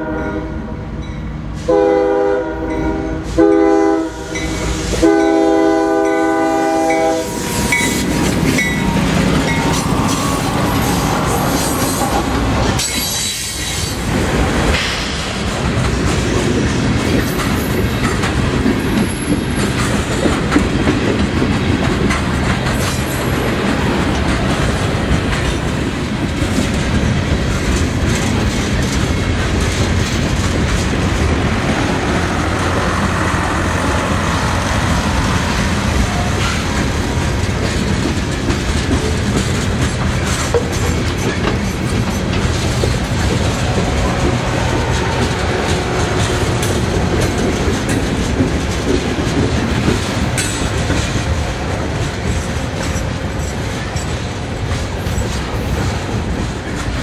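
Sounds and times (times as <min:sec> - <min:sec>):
freight train rumbling past: 0:00.0 - 0:57.0
wheels clicking over rail joints: 0:05.9 - 0:57.0.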